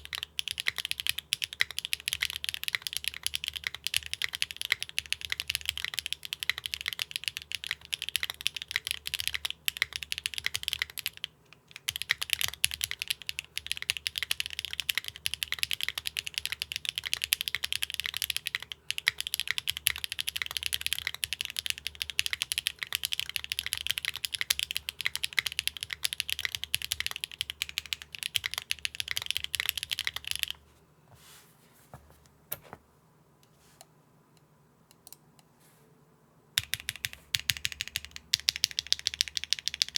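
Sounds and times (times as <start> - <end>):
typing on mechanical keyboard: 0.0 - 30.6, 36.6 - 39.9.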